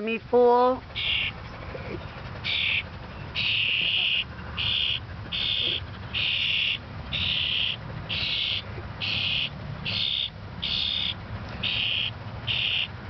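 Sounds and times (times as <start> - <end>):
fledgling begging calls: 0.4 - 13.0.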